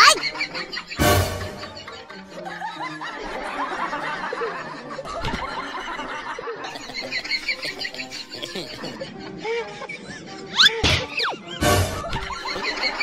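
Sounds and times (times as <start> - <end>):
snickering and chuckling laughter: 0.0 - 13.0.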